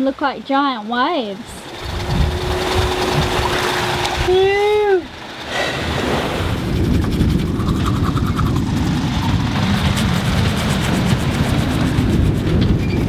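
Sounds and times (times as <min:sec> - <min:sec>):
wind buffeting microphone: 0:01.1 - 0:13.0.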